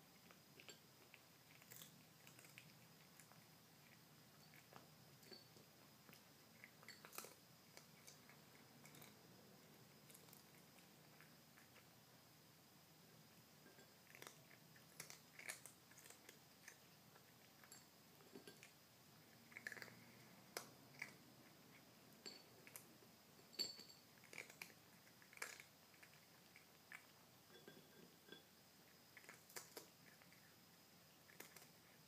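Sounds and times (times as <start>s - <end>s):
kitten crunching dry food: 0.0s - 12.0s, 13.1s - 32.0s.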